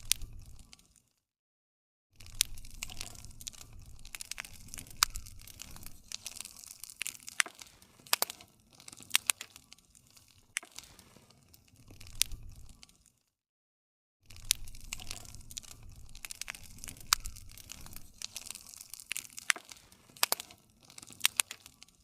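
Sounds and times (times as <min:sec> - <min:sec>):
low rumble of flames: 0:00.0 - 0:00.8, 0:02.2 - 0:13.0, 0:14.3 - 0:22.0
campfire crackling: 0:00.0 - 0:01.0, 0:02.2 - 0:13.2, 0:14.3 - 0:22.0.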